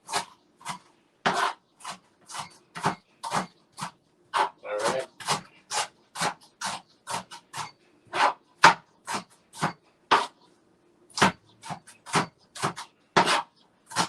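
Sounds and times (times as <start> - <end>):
knife chopping on cutting board: 0.0 - 10.4, 11.1 - 14.0.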